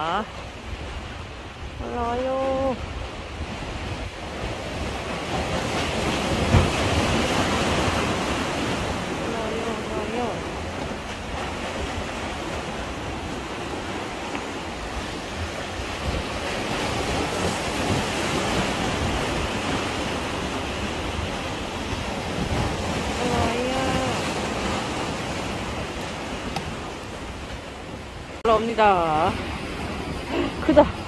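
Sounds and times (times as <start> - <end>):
sea waves breaking on concrete: 0.3 - 31.0
wind buffeting microphone: 0.3 - 31.0.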